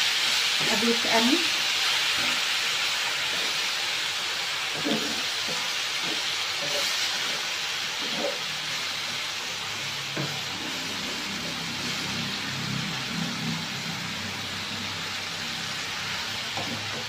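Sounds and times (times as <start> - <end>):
mushrooms sizzling in hot oil: 0.0 - 17.0.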